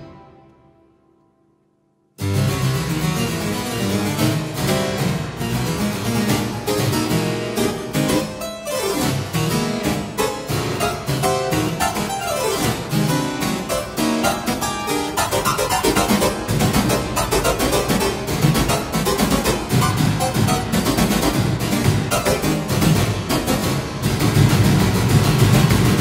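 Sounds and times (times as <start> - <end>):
harpsichord playing fast passagework: 2.2 - 26.0.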